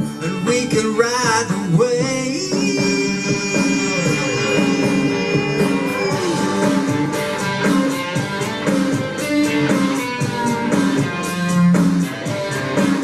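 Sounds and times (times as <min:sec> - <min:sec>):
steady drum beat: 0:00.4 - 0:13.0
picked guitar melody: 0:02.0 - 0:13.0.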